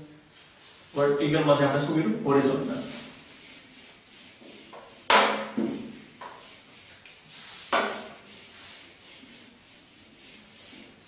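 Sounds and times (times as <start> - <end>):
eraser wiping whiteboard: 0.2 - 11.0.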